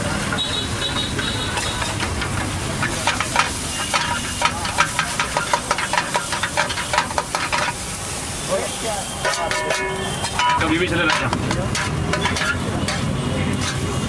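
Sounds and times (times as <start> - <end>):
spatula scraping against a wok: 0.0 - 8.2, 9.0 - 14.0
food sizzling in oil: 0.0 - 14.0.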